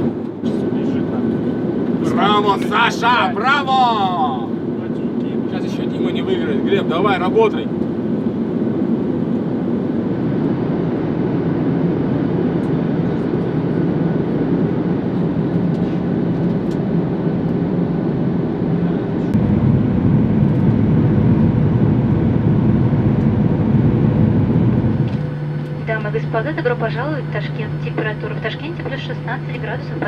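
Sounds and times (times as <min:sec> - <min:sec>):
jet airliner cabin rumble: 0:00.0 - 0:30.0.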